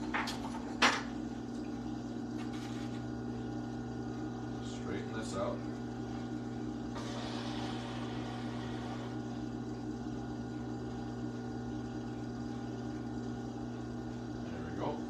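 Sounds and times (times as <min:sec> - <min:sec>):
pottery wheel motor humming: 0:00.0 - 0:15.0.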